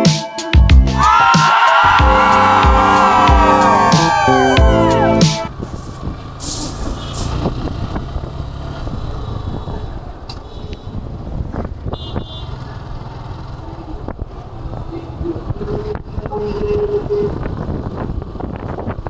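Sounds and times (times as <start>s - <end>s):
motorcycle engine and road noise: 3.1s - 19.0s.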